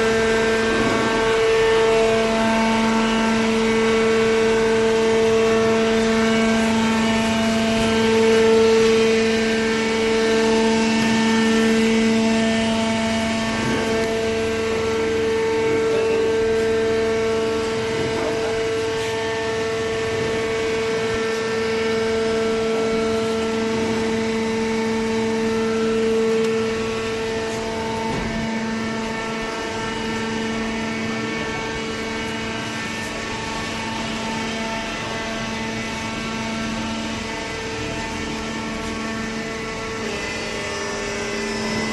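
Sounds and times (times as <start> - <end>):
hydraulic baler humming whine: 0.0 - 41.9.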